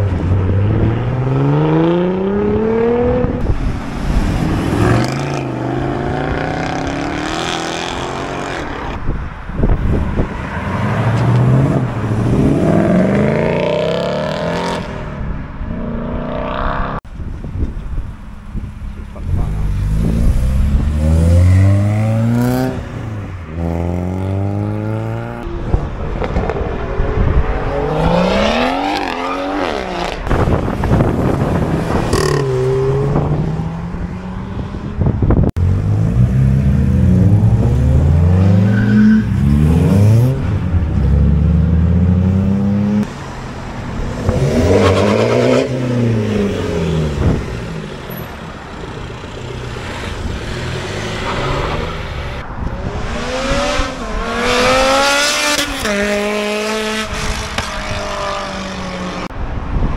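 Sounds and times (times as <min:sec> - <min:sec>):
cars accelerating hard: 0:00.0 - 0:09.0, 0:19.2 - 0:59.3.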